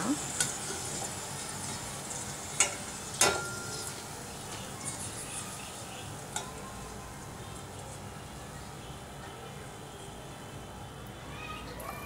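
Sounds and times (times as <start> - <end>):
hot oil sizzling: 0.0 - 10.8.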